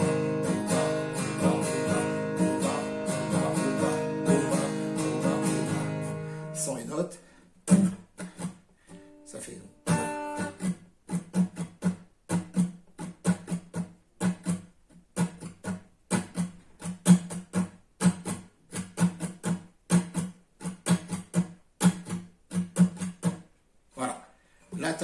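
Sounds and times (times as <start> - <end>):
muted acoustic guitar strumming: 0.0 - 23.5.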